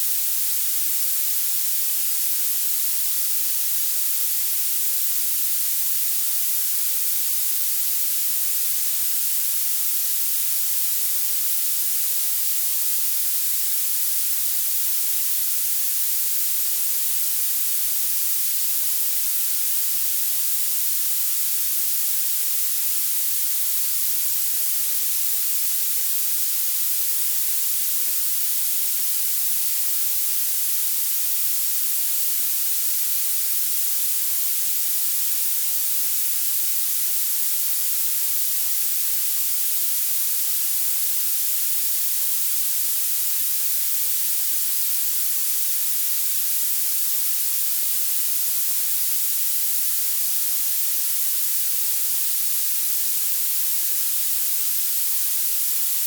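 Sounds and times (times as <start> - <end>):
bright steady hiss: 0.0 - 56.0.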